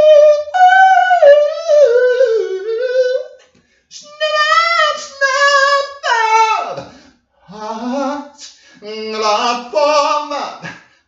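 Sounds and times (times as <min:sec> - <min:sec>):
person singing unaccompanied: 0:00.0 - 0:03.4, 0:04.0 - 0:10.8.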